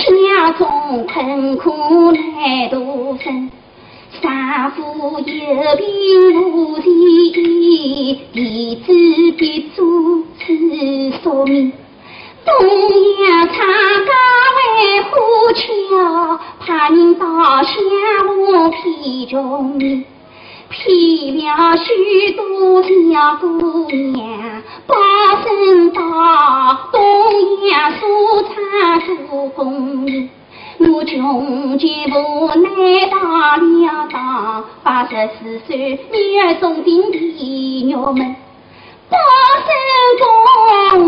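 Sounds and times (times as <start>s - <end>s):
woman singing opera: 0.0s - 11.8s, 12.4s - 20.1s, 20.7s - 38.5s, 39.1s - 41.0s.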